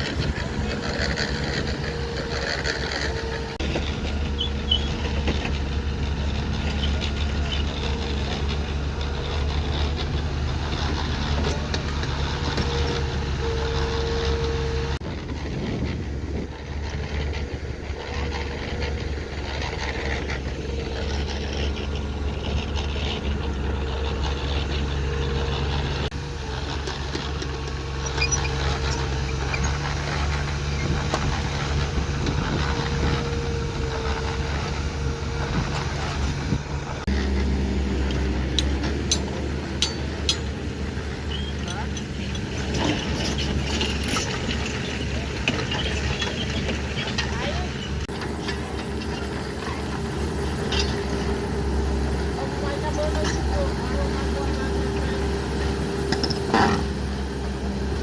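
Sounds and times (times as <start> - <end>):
heavy machine diesel engine running: 0.0 - 58.0.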